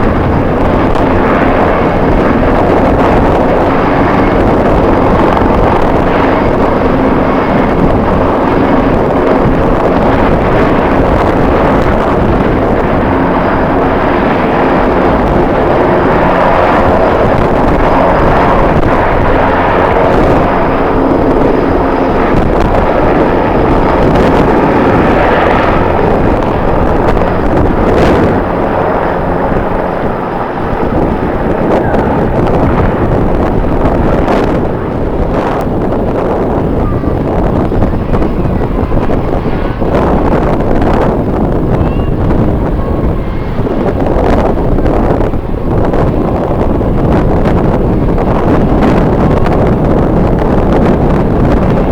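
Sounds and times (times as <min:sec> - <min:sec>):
jet engines running: 0:00.0 - 0:51.9
wind buffeting microphone: 0:00.0 - 0:51.9.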